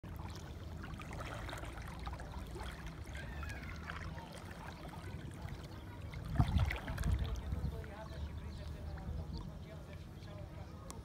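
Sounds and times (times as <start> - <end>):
small splashes: 0.0 - 10.0
low steady rumble: 0.0 - 11.0
seawater lapping and trickling: 0.0 - 11.0.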